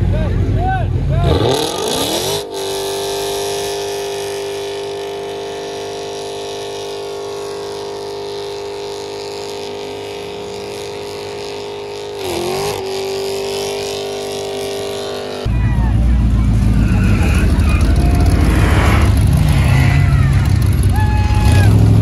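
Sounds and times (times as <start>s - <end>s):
car engine at high revs: 1.0s - 22.0s.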